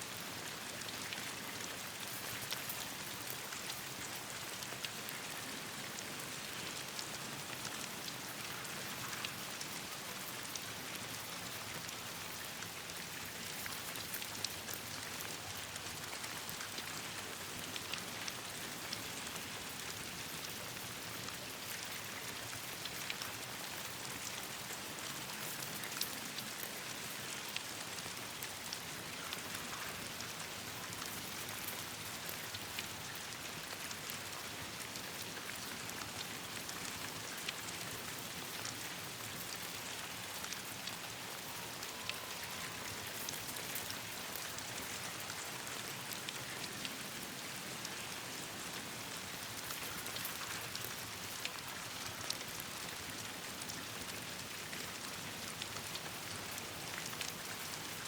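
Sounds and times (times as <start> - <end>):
rain falling: 0.1 - 58.0.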